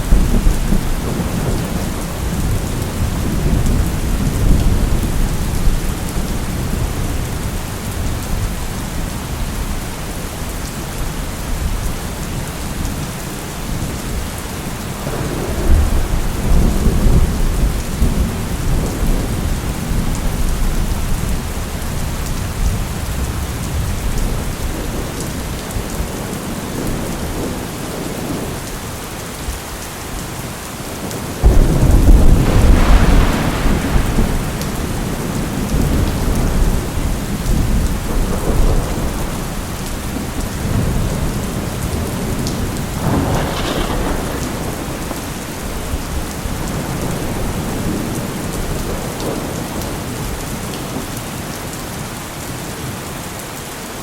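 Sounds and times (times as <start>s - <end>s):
thunder rumbling: 0.0s - 9.8s, 14.8s - 28.8s, 30.8s - 51.1s
heavy rain: 0.0s - 54.0s.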